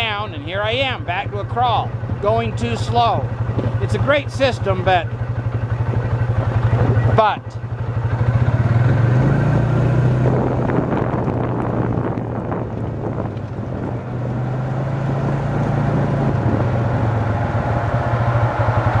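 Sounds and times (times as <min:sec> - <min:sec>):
tires crunching over rocks and snow: 0:00.0 - 0:07.2, 0:08.3 - 0:19.0
engine running at low speed: 0:00.0 - 0:19.0.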